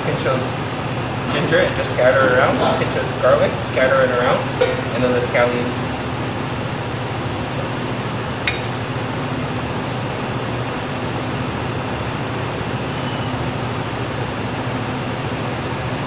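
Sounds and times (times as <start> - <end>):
ventilation fans humming: 0.0 - 16.0.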